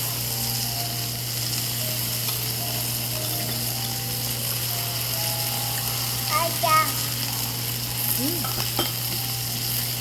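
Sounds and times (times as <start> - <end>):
beef sizzling on a grill: 0.0 - 10.0.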